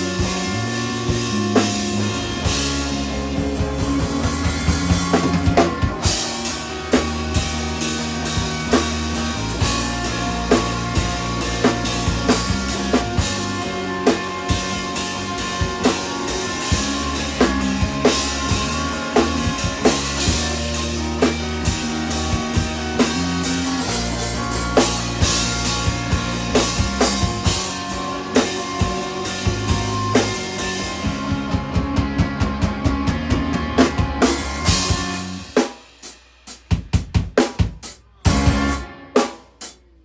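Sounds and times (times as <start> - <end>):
sustained guitar chords: 0.0 - 35.4
drum kit beat: 0.0 - 40.0.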